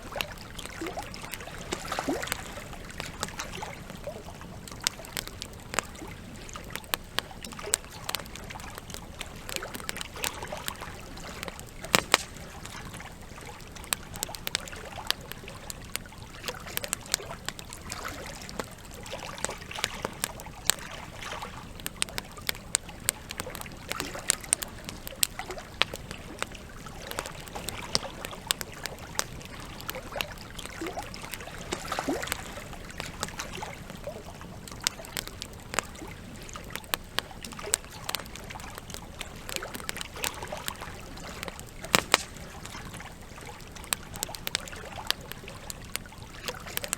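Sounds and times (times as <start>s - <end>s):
campfire crackling and popping: 0.0s - 46.9s
water trickling: 0.0s - 46.9s.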